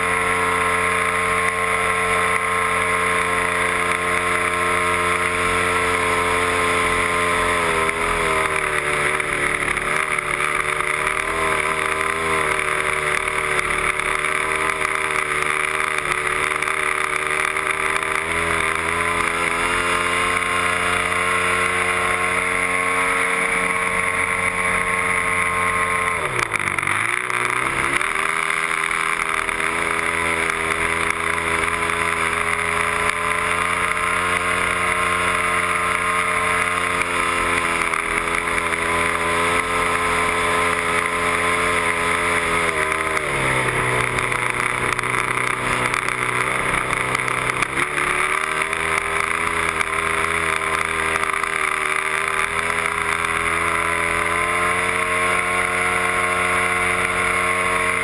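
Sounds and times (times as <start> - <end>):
model airplane motor running: 0.0 - 58.0.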